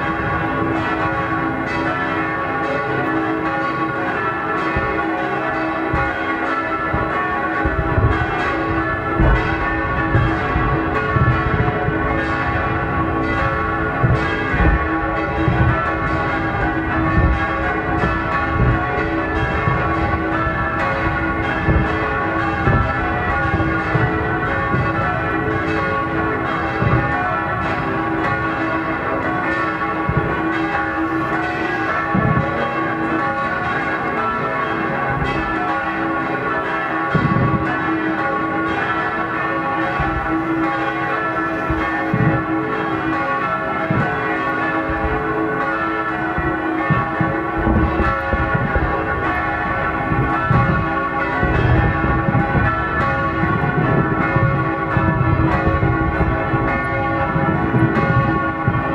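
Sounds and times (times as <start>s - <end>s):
church bells ringing: 0.0s - 58.9s
fireworks banging: 0.0s - 58.9s.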